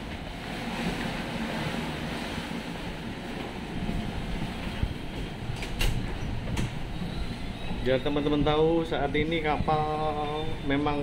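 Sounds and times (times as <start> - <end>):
ship low rumble: 0.0 - 11.0
wind noise on microphone: 0.0 - 11.0.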